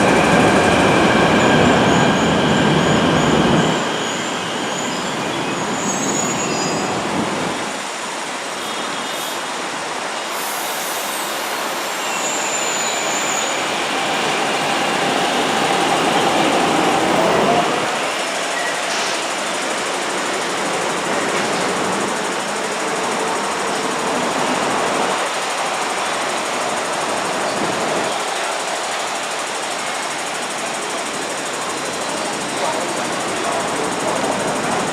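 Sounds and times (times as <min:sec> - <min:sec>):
train wheels rumbling on track: 0:00.0 - 0:34.9
train whine: 0:00.0 - 0:34.9.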